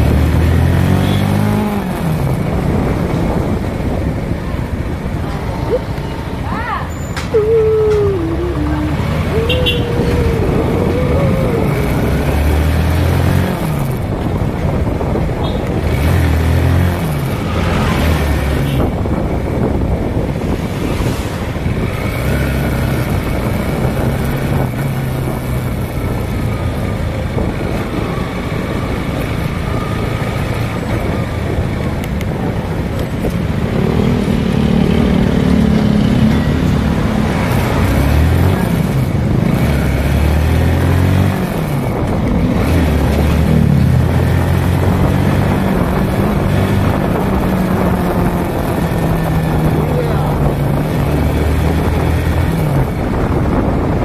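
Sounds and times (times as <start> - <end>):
motorcycle engine revving: 0.0 - 4.0, 8.1 - 31.7, 33.0 - 54.0
wind and road noise: 0.0 - 54.0.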